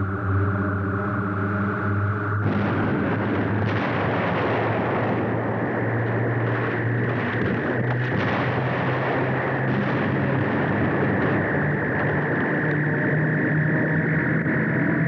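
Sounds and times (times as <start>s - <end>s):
low hum: 0.0s - 15.0s
rumbling blast sound effect: 2.4s - 14.5s.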